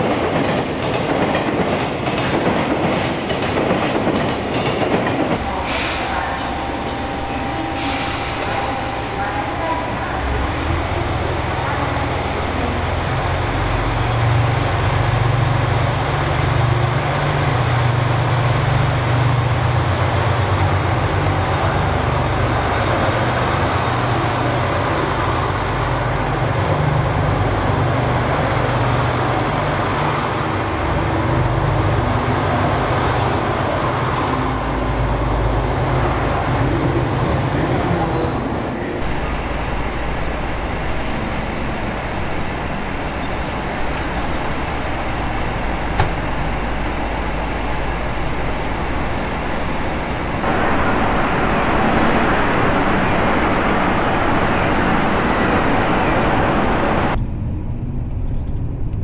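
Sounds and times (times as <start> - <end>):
diesel train engine droning: 0.0 - 59.0.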